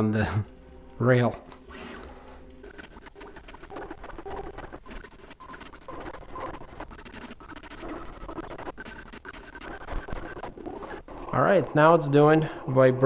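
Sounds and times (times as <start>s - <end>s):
printer bearings scratchy patter: 1.4s - 12.3s.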